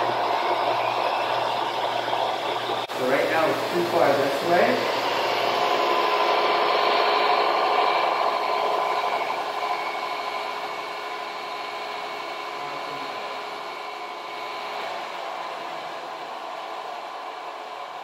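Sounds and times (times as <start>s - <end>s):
belt sander motor hum: 0.0s - 18.0s.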